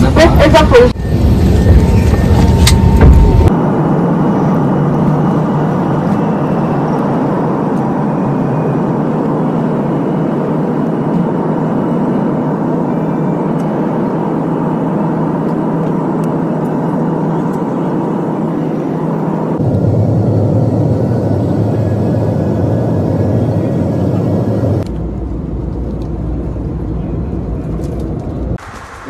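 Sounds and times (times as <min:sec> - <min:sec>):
jet engines in airliner cabin: 0:00.0 - 0:29.0.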